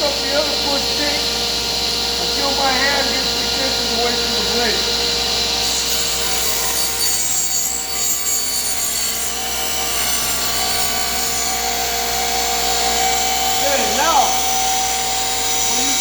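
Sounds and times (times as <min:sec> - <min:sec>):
table saw motor whine: 0:00.0 - 0:16.0.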